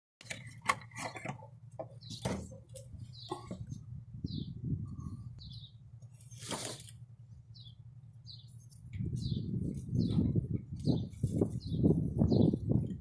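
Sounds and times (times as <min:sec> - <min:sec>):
low steady hum: 0:00.2 - 0:11.3
birds chirping: 0:00.8 - 0:12.8.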